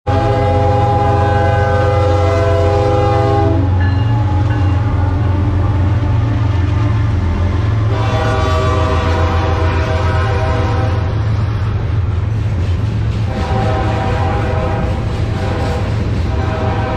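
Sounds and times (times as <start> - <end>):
locomotive air horn blasts: 0.1 - 6.8, 7.8 - 11.3, 13.3 - 16.9
diesel engines rumbling: 0.1 - 16.9.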